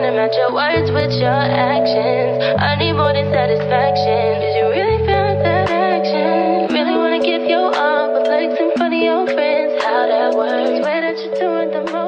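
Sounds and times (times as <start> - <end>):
song with sung vocal: 0.0 - 12.0.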